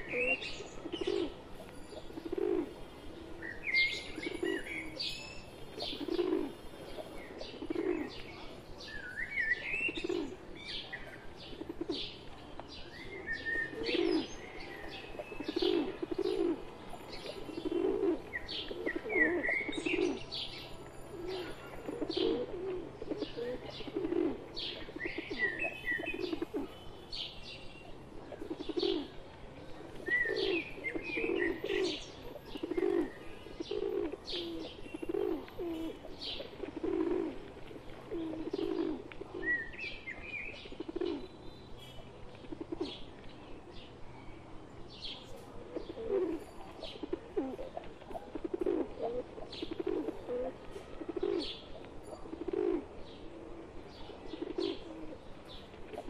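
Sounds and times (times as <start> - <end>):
pigeons cooing: 0.0 - 41.4, 42.4 - 43.8, 45.1 - 56.0.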